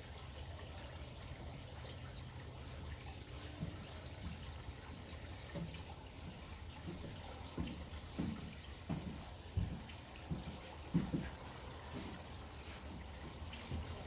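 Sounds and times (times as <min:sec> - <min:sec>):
water dripping into pool: 0:00.0 - 0:14.0.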